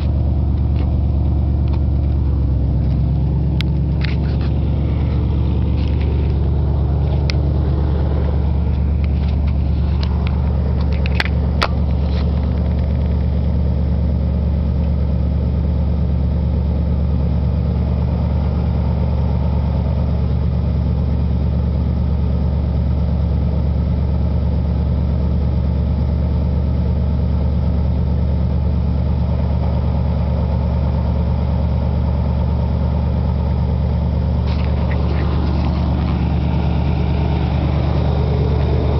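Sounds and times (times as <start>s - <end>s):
loud car exhaust drone: 0.0s - 38.9s.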